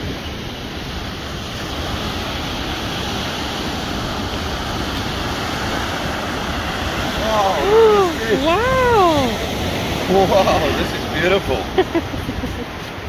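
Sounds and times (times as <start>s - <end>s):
surf breaking on beach: 0.0s - 13.0s
wind rumbling on microphone: 0.0s - 13.0s.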